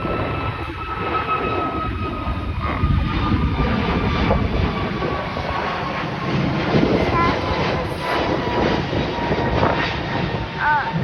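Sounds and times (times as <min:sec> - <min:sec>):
jet airliner engines passing: 0:00.0 - 0:11.0.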